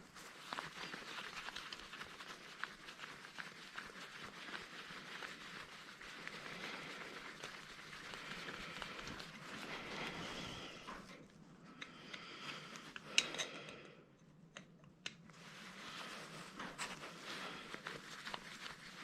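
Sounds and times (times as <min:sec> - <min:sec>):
faint rustling: 0:00.0 - 0:13.7, 0:15.3 - 0:19.0.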